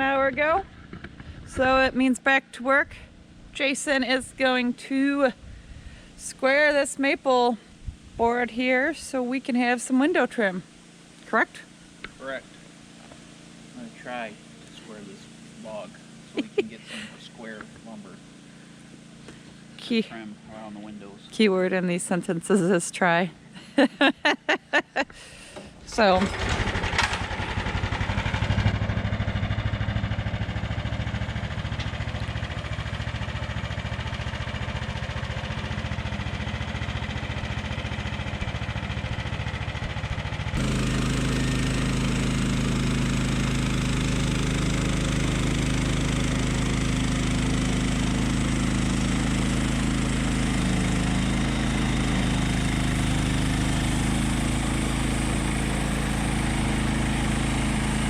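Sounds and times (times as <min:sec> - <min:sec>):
sawmill gas engine running: 0:02.9 - 0:24.1, 0:25.0 - 0:58.0.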